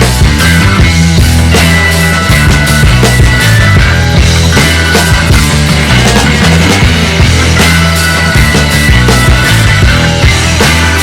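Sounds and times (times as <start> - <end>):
loud rock music: 0.0 - 11.0.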